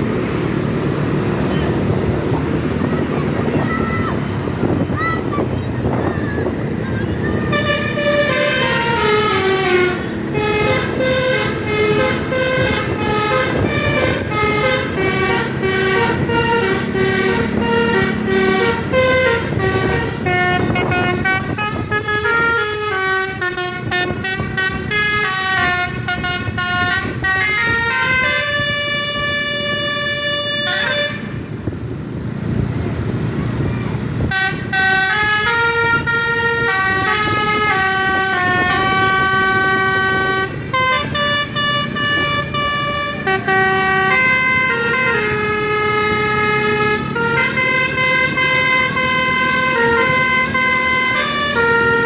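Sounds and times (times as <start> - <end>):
musical air horn on a bus: 7.3 - 31.6, 34.2 - 52.0.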